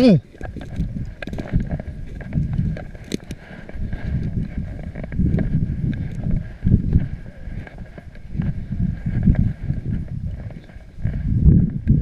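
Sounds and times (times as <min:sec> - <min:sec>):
footsteps on muddy track: 0:00.0 - 0:12.0
wind buffeting microphone: 0:00.0 - 0:12.0.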